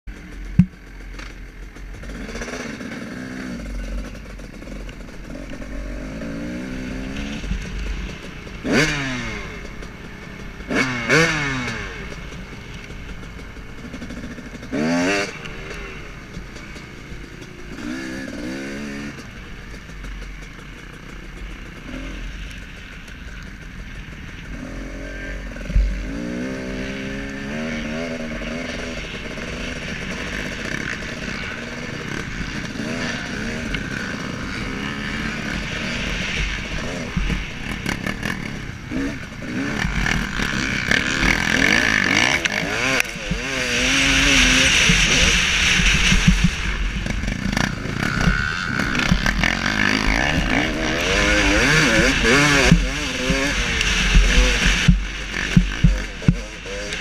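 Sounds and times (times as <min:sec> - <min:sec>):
motocross bike engine revving: 0:00.1 - 0:57.0.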